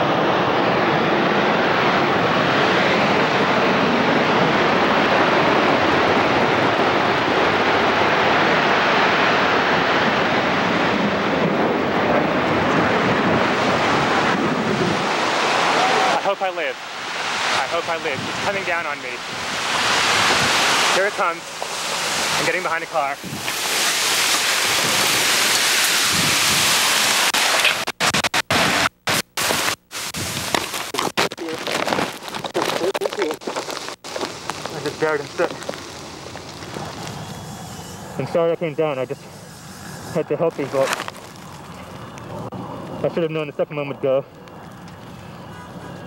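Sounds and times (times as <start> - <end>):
rushing roar of debris cloud: 0.0 - 43.3.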